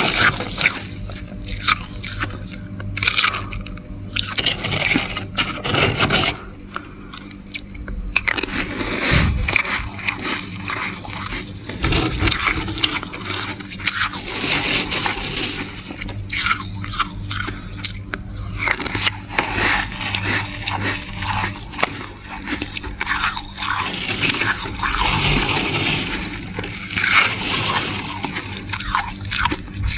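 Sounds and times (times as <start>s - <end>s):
frost crunching and scraping: 0.0s - 29.9s.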